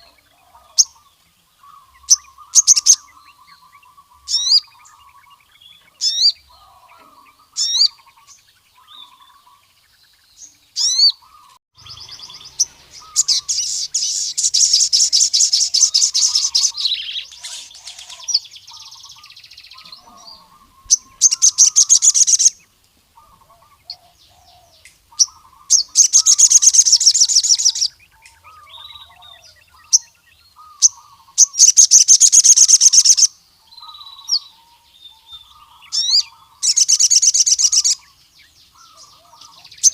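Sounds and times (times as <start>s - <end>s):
bird chirps and trills: 0.0s - 39.9s
soft bird twittering: 0.0s - 39.9s.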